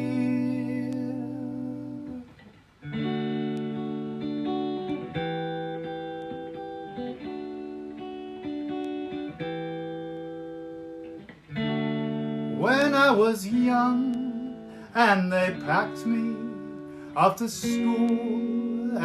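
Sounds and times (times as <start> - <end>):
guitar playing ringing chords: 0.0 - 19.0.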